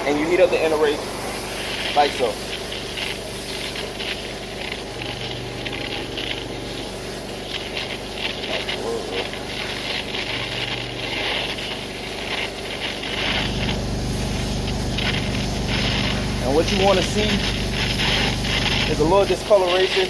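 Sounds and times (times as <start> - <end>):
gas torch hissing: 0.0 - 20.0
pressure washer humming: 0.0 - 20.0.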